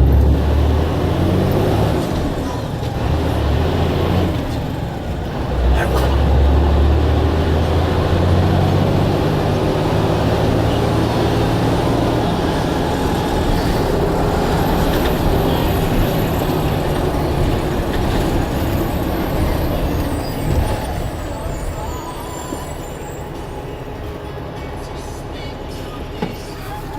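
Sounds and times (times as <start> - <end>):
bus engine hum: 0.0 - 26.9
road rumble: 0.0 - 26.9.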